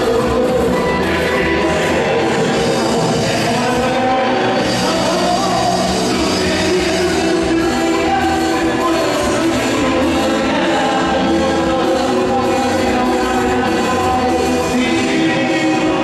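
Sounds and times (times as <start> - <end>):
live band playing amplified music: 0.0 - 16.0.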